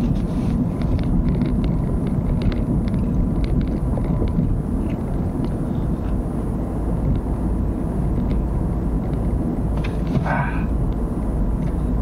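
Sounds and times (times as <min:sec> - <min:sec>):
moving vehicle road noise: 0:00.0 - 0:12.0.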